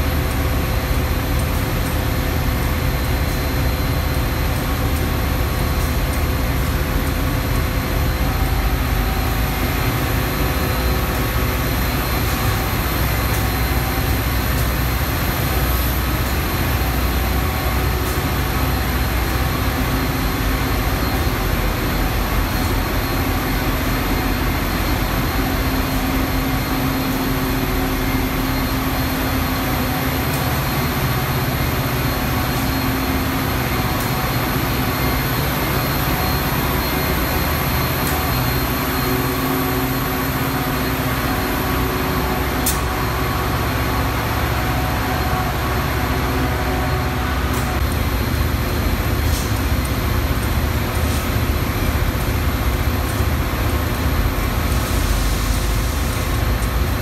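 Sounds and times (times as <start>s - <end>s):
diesel locomotive idling: 0.0s - 57.0s.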